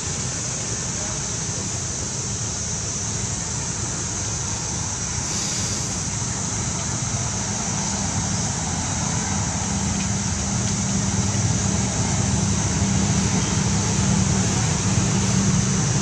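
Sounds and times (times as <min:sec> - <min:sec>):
high-pitched hiss: 0:00.0 - 0:16.0.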